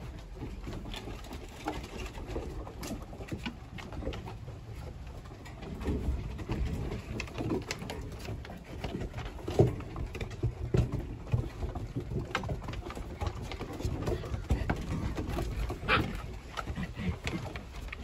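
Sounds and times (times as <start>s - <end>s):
puppies grumbling: 0.0s - 18.0s
puppy paws on wooden deck: 0.0s - 18.0s.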